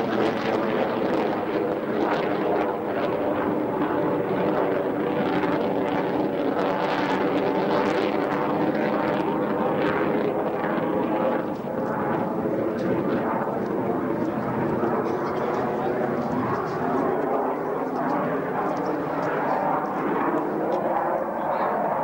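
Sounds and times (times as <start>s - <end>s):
jet flying overhead: 0.0s - 22.0s.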